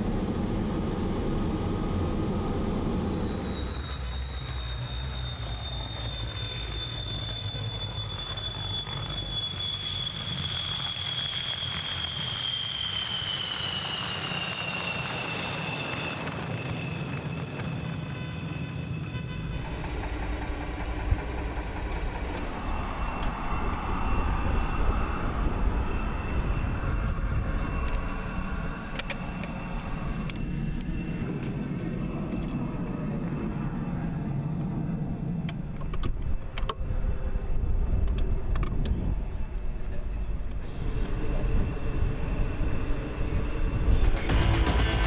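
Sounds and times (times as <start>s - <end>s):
engine rumbling: 0.0s - 45.0s.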